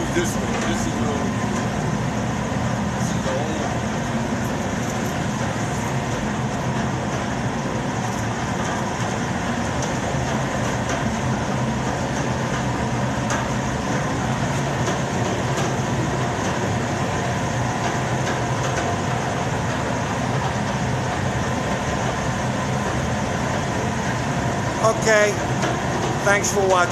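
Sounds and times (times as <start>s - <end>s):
boiler room machinery roar: 0.0s - 26.9s.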